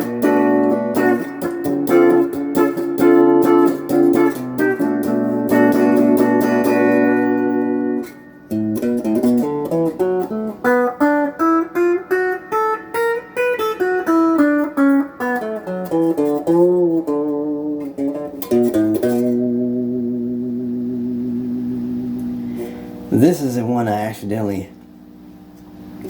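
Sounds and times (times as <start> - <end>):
clean electric guitar: 0.0 - 23.7.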